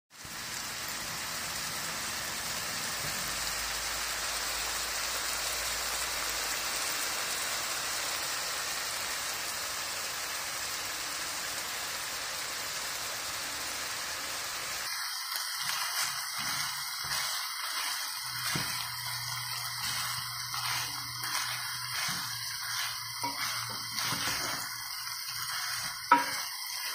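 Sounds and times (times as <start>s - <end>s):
meat and potatoes sizzling in pot: 0.1s - 26.9s.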